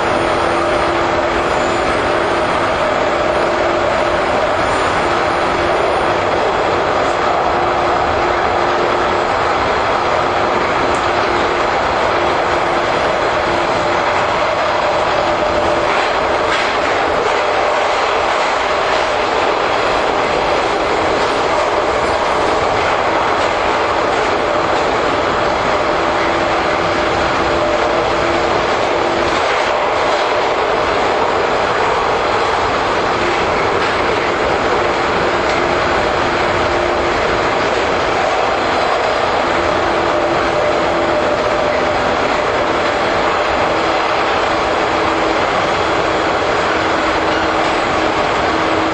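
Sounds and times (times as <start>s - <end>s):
train wheels on track roar: 0.0s - 48.9s.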